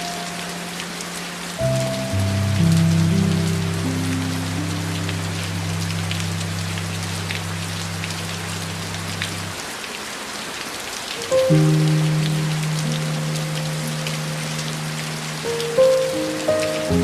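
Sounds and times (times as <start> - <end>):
soft music of low notes: 0.0 - 9.6, 11.2 - 17.0
steady rain: 0.0 - 17.0.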